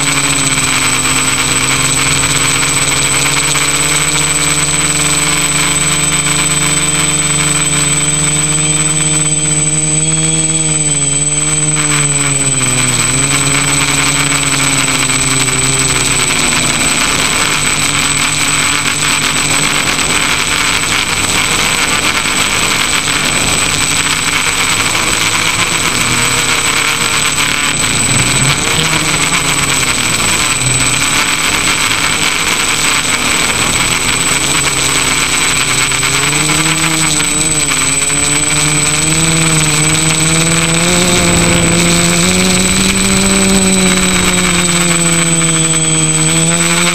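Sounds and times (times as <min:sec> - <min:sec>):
drone motors whirring: 0:00.0 - 0:46.9
thin high whine: 0:00.0 - 0:46.9.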